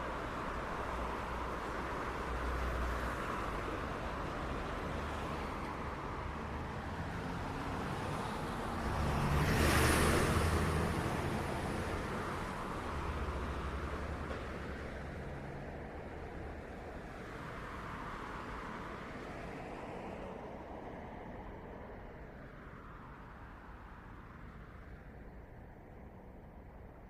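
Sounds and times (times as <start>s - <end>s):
road noise from passing cars: 0.0s - 27.0s.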